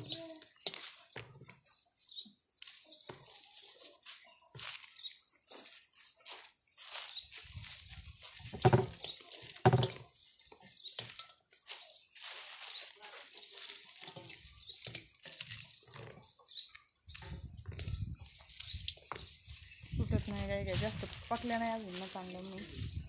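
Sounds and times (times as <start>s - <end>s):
dry plants rustling and crackling: 0.0s - 23.0s.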